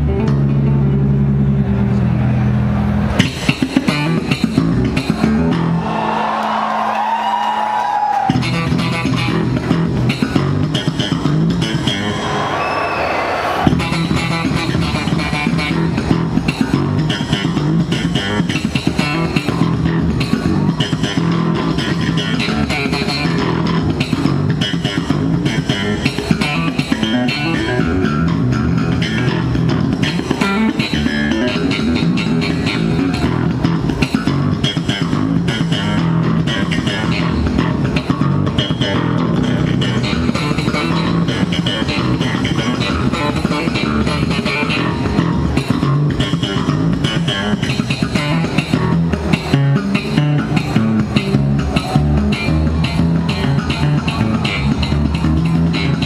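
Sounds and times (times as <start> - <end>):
band playing: 0.0 - 7.2, 8.1 - 56.0
electric bass guitar: 0.0 - 12.5, 13.6 - 56.0.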